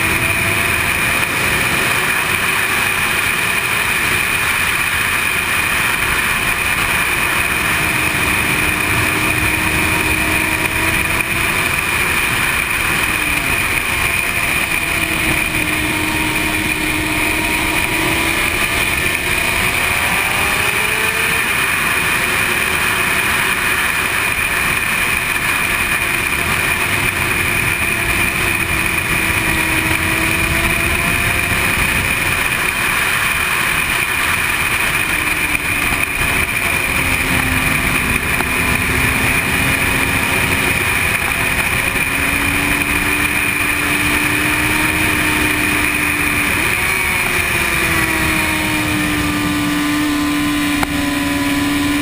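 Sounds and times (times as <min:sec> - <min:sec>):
motorcycle engine: 0:00.0 - 0:52.0.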